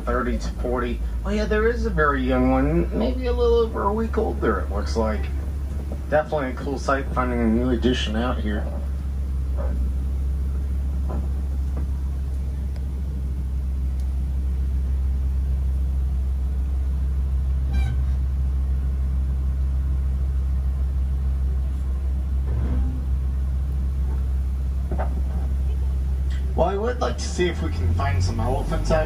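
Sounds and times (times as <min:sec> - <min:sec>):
truck engine low rumble: 0:00.0 - 0:29.0.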